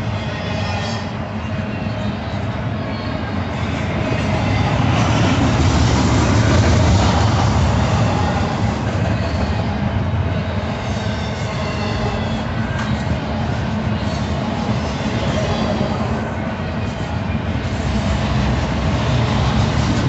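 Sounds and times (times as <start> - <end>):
freight train wheels rumbling on rail: 0.0 - 20.0.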